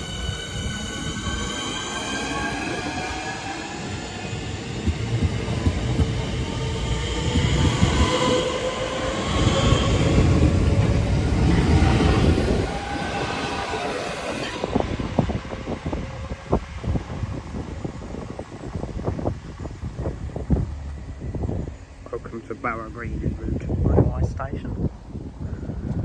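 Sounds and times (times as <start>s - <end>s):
wheel and rail rumble: 0.0s - 26.0s.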